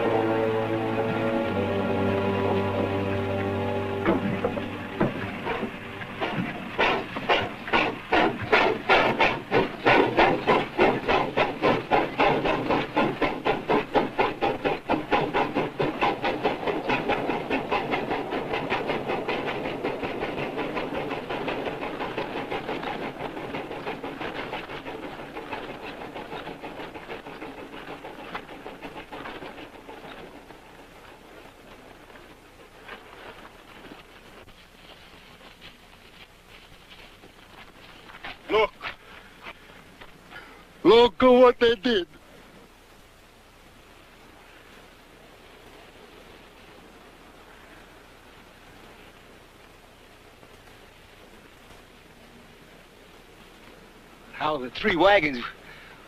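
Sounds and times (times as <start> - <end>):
steam locomotive chuffing: 0.0 - 42.1, 44.3 - 56.0.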